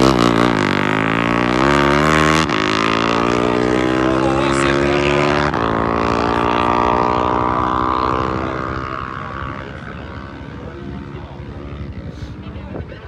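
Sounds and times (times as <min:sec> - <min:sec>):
racing motorcycle engine revving: 0:00.0 - 0:12.9.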